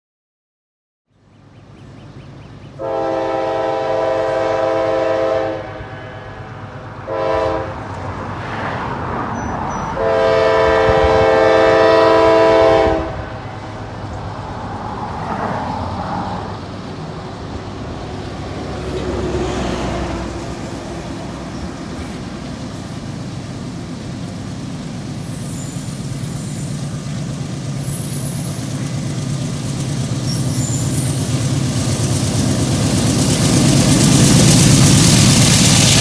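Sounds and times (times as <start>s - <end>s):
locomotive engine drone: 1.2s - 36.0s
wheels hissing on rail: 2.0s - 36.0s.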